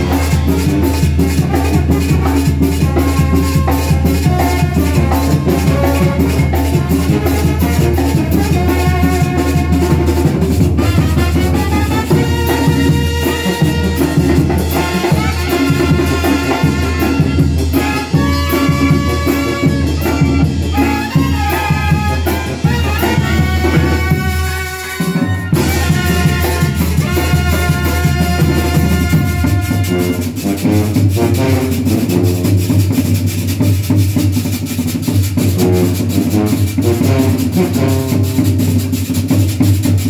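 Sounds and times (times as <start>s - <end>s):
brass band playing lively tune: 0.0s - 40.0s.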